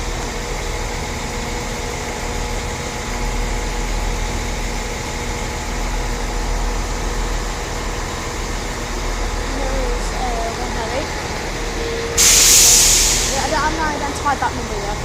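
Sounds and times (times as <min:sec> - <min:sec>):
diesel train engine idling: 0:00.0 - 0:15.0.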